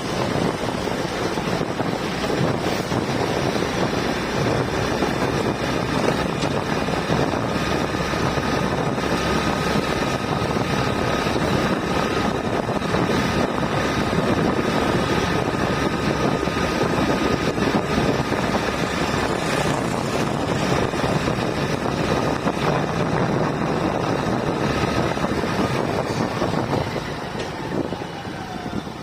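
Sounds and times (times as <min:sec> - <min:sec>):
motorcycle engine running: 0:00.0 - 0:27.3
wind noise on microphone: 0:00.0 - 0:29.0.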